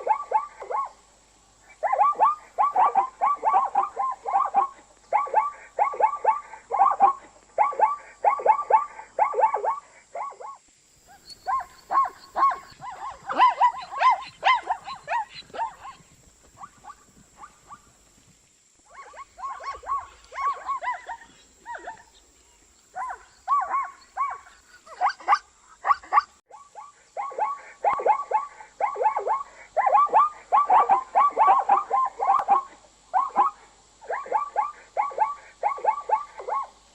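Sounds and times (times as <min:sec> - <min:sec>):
zebra barking yelps: 0:00.0 - 0:01.0, 0:01.6 - 0:18.0, 0:18.9 - 0:36.8.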